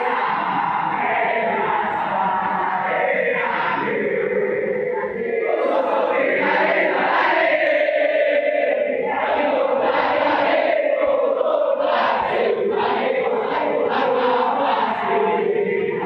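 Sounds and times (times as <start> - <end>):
crowd chanting: 0.0 - 16.0.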